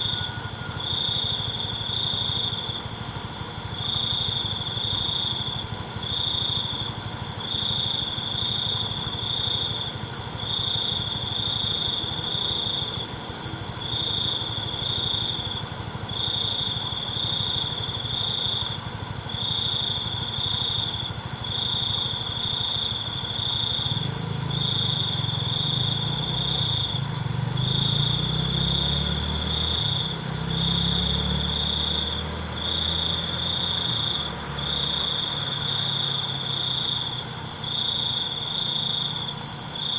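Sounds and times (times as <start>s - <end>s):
crickets chirping: 0.0s - 39.9s
insect trilling: 0.0s - 39.9s.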